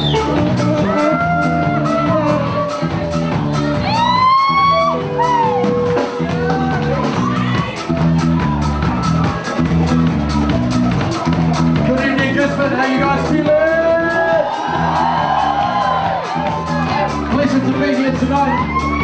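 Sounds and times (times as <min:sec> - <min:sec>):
latin band playing live: 0:00.0 - 0:19.0.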